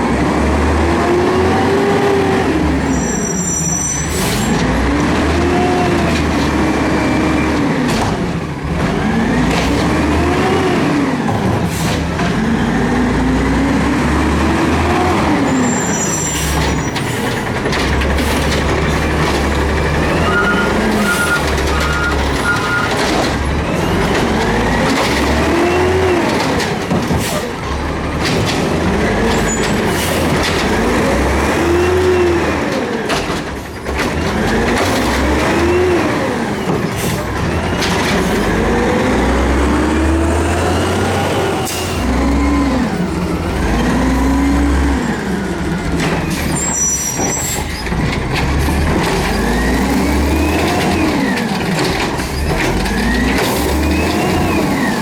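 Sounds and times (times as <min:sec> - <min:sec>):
diesel truck engine revving: 0:00.0 - 0:55.0.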